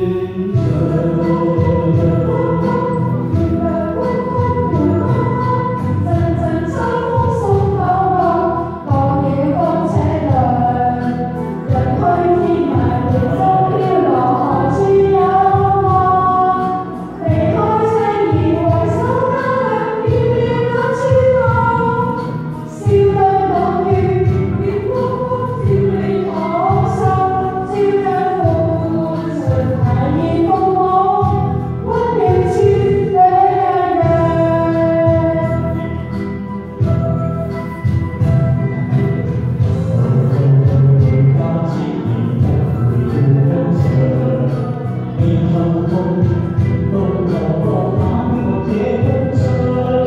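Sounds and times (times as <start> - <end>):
woman singing pop ballad: 0.0 - 37.0, 37.8 - 50.0
backing track with steady beat: 0.0 - 50.0.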